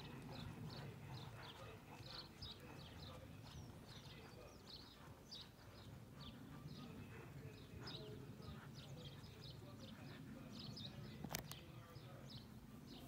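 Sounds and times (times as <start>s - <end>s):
horse hoofbeats on sand: 0.0s - 11.0s
birds chirping: 0.0s - 13.0s.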